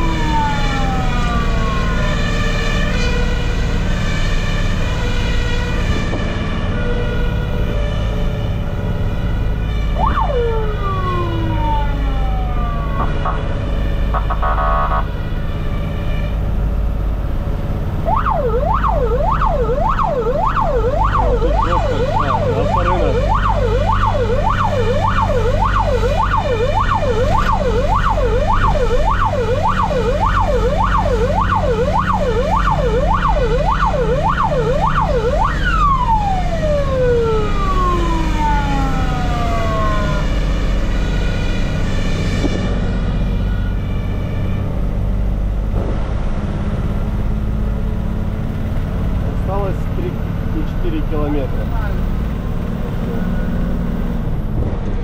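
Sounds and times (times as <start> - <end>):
fire engine siren yelping: 0.0 - 45.7, 46.9 - 54.5
vehicle engine running low: 0.0 - 55.0.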